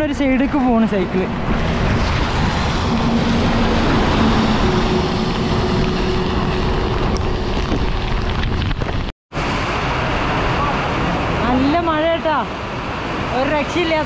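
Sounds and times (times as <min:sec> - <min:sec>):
wind buffeting microphone: 0:00.0 - 0:14.0
heavy rain: 0:01.3 - 0:14.0.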